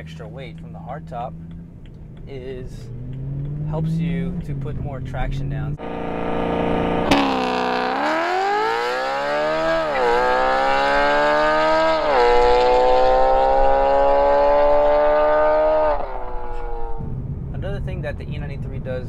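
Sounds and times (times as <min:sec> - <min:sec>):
car engine accelerating hard: 0:00.0 - 0:17.2.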